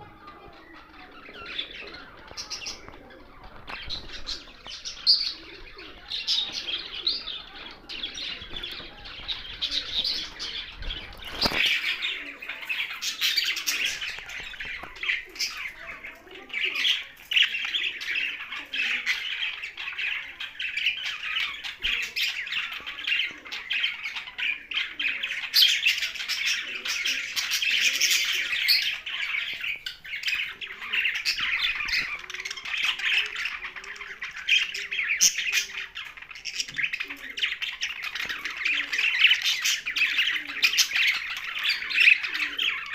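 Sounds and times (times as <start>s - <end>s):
parrots chattering and squawking: 0.0s - 42.9s.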